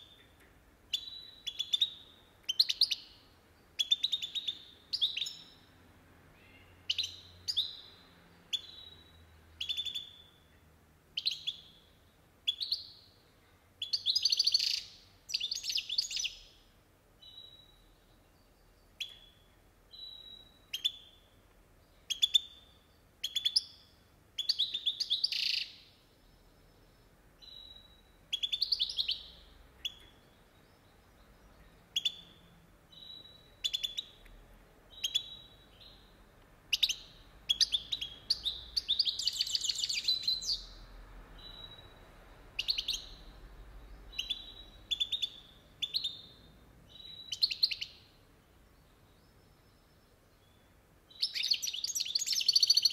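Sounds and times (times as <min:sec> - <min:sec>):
bird twittering song: 0:00.0 - 0:52.9.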